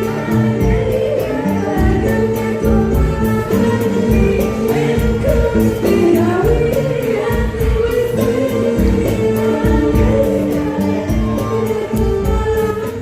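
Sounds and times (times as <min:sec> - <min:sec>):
musical accompaniment: 0:00.0 - 0:13.0
steady percussion beat: 0:00.0 - 0:13.0
youth choir singing: 0:00.0 - 0:13.0.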